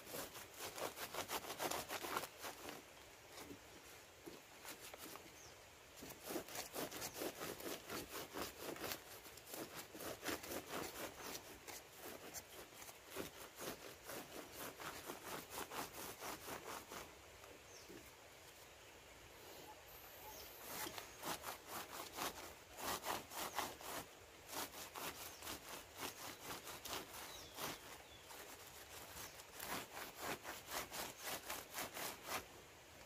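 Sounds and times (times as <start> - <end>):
leaves rustling against flowers: 0.0 - 33.0.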